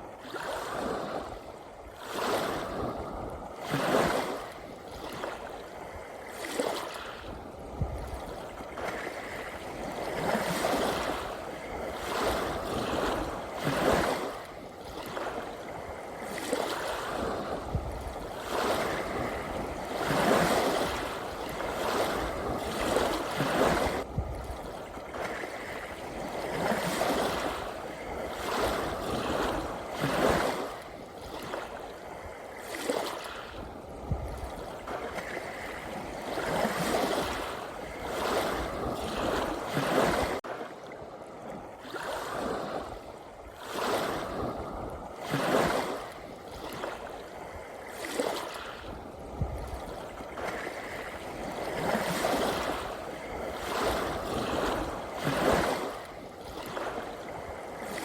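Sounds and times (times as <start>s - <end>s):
ocean waves washing in: 0.0s - 58.0s.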